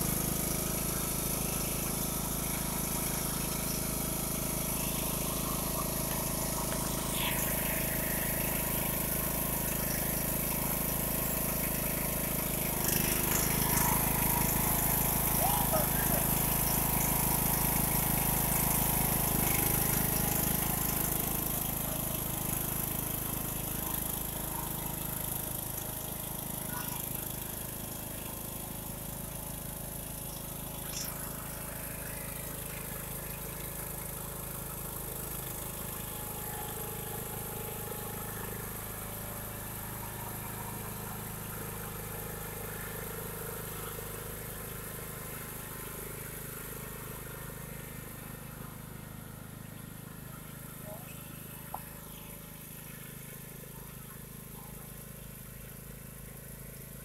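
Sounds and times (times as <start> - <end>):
riding lawn mower engine: 0.0 - 57.0.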